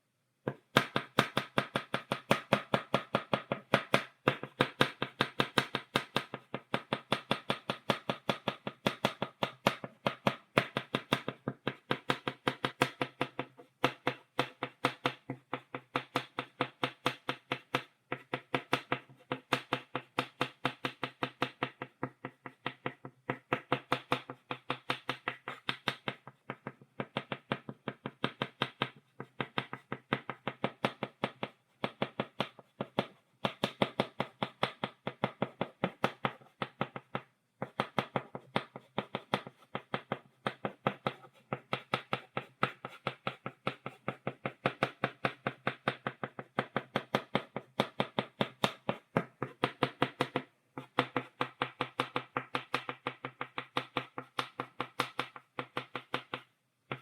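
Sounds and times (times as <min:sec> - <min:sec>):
chalk tapping on blackboard: 0:00.4 - 0:57.0.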